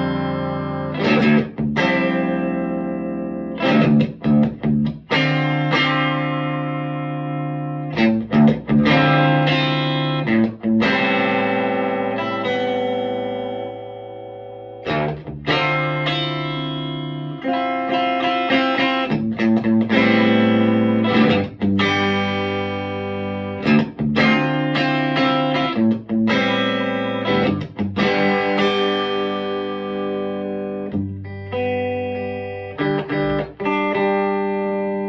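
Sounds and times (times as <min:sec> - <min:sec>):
electric guitar strummed chords: 0:00.0 - 0:35.0.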